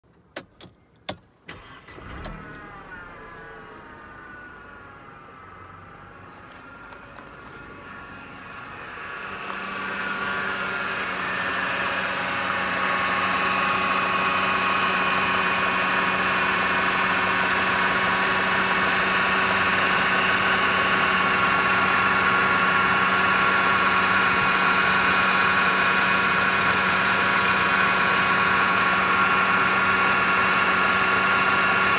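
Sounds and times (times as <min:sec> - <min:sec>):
car engine running: 0:01.5 - 0:31.9.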